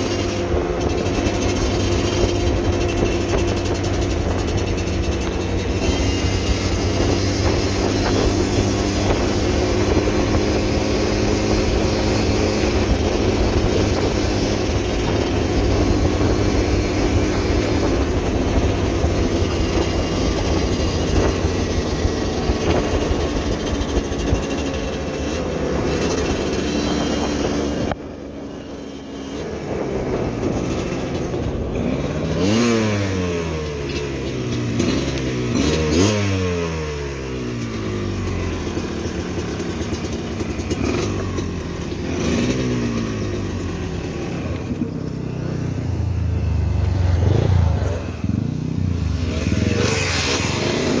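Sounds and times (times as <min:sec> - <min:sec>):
motorcycle engine running: 0:00.0 - 0:51.0
rattling road noise: 0:00.0 - 0:51.0.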